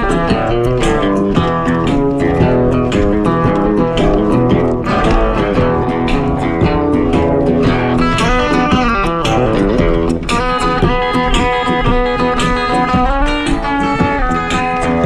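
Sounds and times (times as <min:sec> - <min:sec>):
guitar-led background music: 0:00.0 - 0:15.0.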